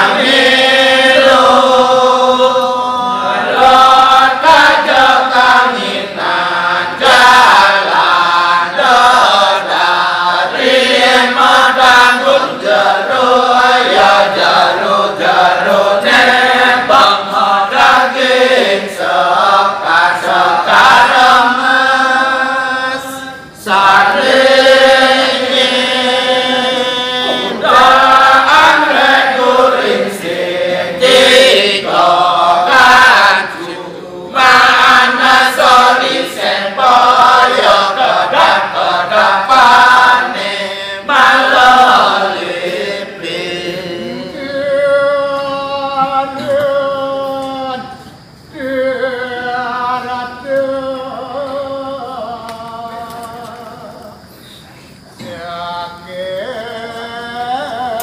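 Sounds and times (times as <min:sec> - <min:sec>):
men chanting in chorus: 0:00.0 - 0:58.0.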